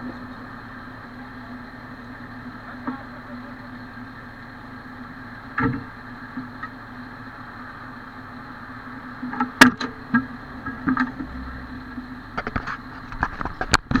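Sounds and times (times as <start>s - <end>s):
fire engine idling: 0.0s - 14.0s.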